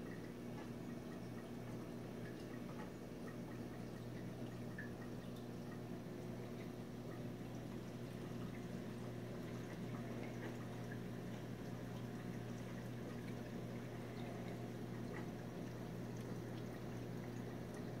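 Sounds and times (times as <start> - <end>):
aquarium pump hum: 0.0 - 18.0
water trickling: 0.0 - 18.0.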